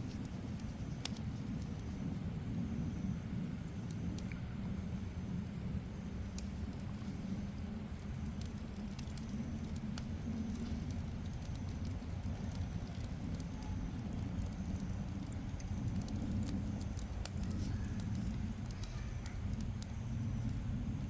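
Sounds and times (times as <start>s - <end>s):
wood fire crackling: 0.0s - 4.4s, 5.4s - 21.0s.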